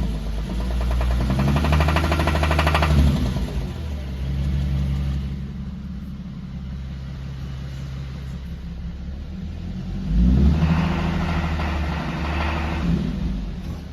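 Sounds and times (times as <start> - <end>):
car engine running: 0.0 - 13.9.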